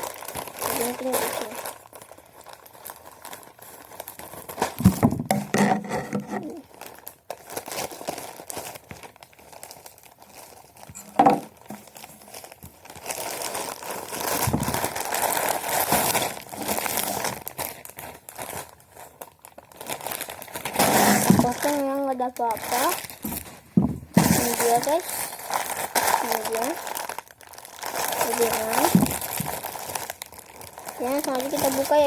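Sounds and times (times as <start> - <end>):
packaging crinkling and tearing: 0.0 - 32.0.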